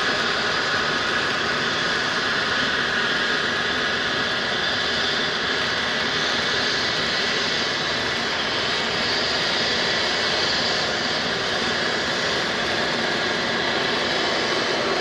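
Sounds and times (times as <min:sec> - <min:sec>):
aircraft turbine engine whine: 0:00.0 - 0:15.0.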